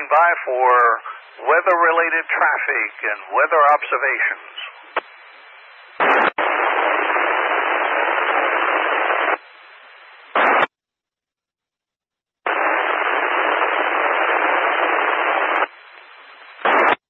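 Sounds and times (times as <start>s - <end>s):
radio hiss: 0.0s - 10.7s, 12.5s - 17.0s.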